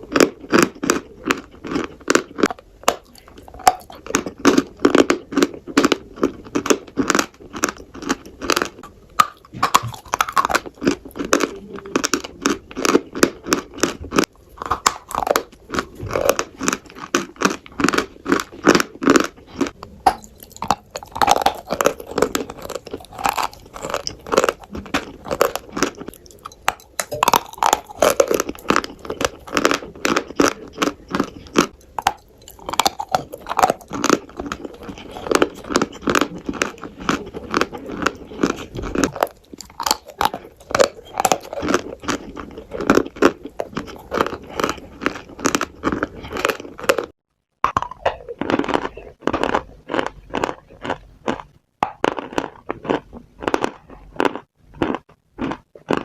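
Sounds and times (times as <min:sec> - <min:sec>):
crunchy food being chewed: 0:00.0 - 0:56.0.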